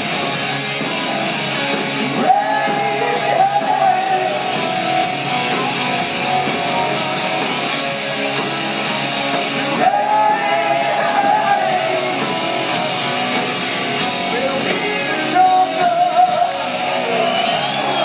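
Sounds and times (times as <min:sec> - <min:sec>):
rock band with electric guitars: 0:00.0 - 0:18.0.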